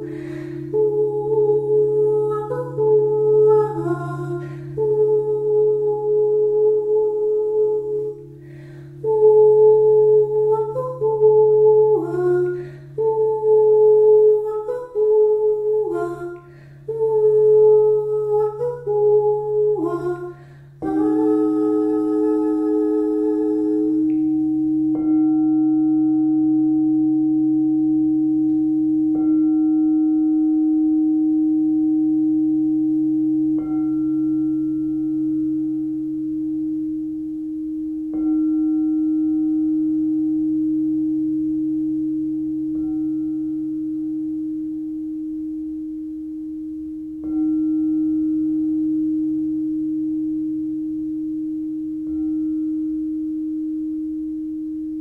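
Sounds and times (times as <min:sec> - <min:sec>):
singing bowl ringing: 0:00.0 - 0:55.0.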